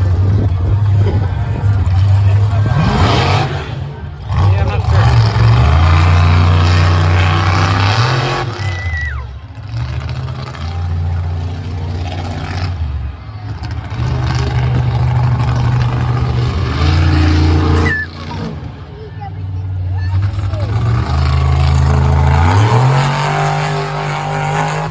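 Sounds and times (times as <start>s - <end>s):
monster truck engine revving: 0.0s - 24.9s.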